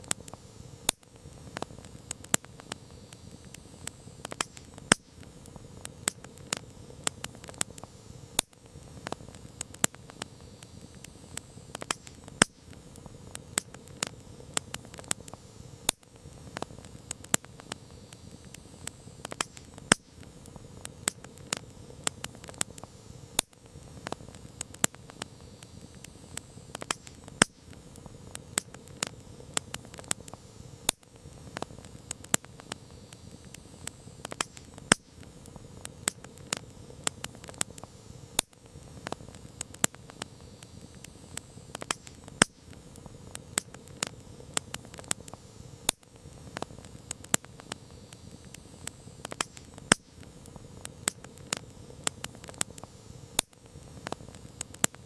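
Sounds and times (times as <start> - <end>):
campfire crackling and popping: 0.0 - 55.0
fire hiss: 0.0 - 55.0.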